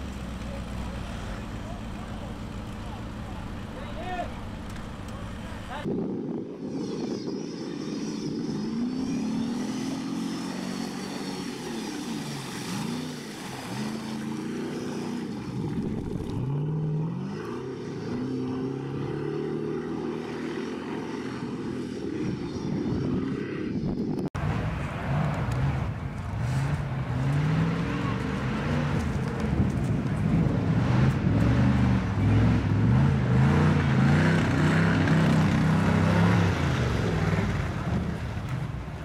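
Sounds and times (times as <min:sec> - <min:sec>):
truck engines revving: 0:00.0 - 0:39.0.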